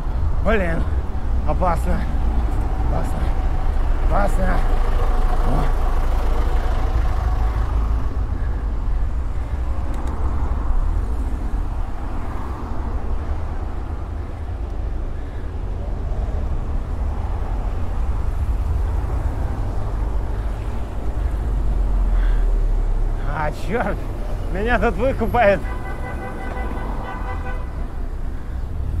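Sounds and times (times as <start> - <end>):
traffic engines rumbling: 0.0 - 29.0.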